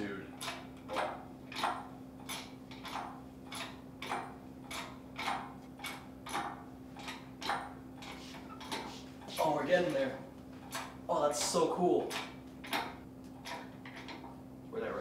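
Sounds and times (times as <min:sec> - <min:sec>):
hydraulic pump creaking: 0:00.0 - 0:14.4
faint steady hum: 0:00.0 - 0:15.0.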